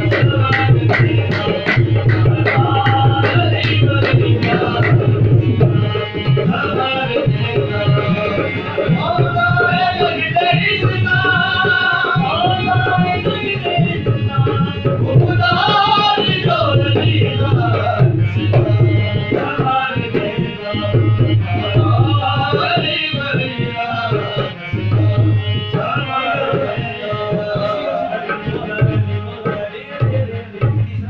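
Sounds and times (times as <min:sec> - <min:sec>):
harmonium chords: 0:00.0 - 0:31.0
man singing: 0:00.0 - 0:31.0.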